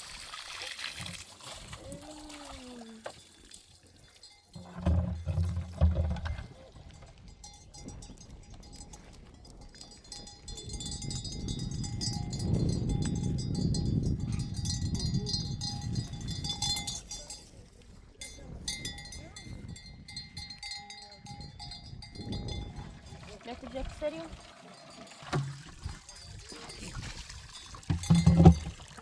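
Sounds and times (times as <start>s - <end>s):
livestock bells clanking: 3.2s - 29.0s.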